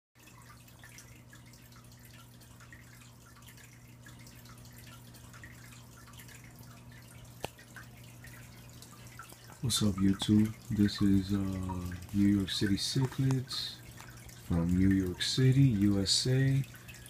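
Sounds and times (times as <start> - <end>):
water trickling and dripping: 0.2 - 17.0.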